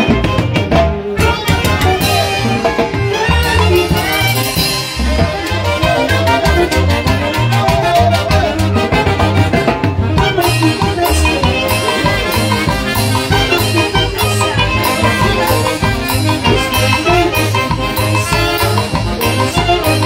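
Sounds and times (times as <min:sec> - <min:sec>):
drum kit dance beat: 0:00.0 - 0:20.0
saxophones and brass: 0:00.0 - 0:20.0.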